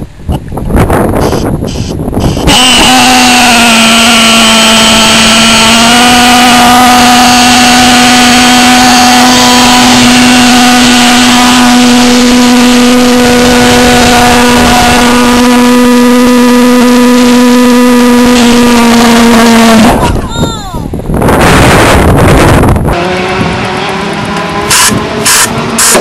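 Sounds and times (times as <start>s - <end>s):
pulsejet engine buzzing: 1.2s - 20.2s, 21.2s - 26.0s.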